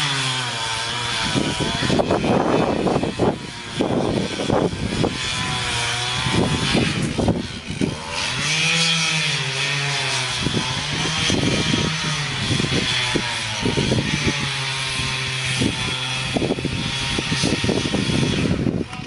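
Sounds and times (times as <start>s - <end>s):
chainsaw cutting: 0.0s - 19.0s
chainsaw revving: 0.0s - 19.0s.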